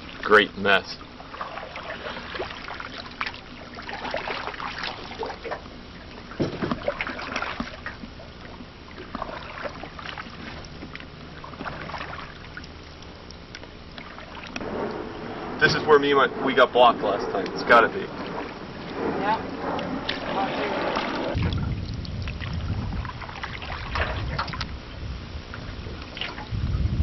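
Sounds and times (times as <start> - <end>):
paddle strokes splashing: 0.0 - 26.6
water trickling and dripping: 0.0 - 27.0.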